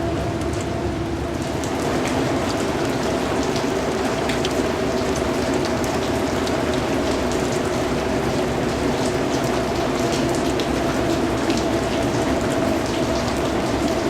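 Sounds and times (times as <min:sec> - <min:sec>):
steady rainfall: 0:00.0 - 0:14.0.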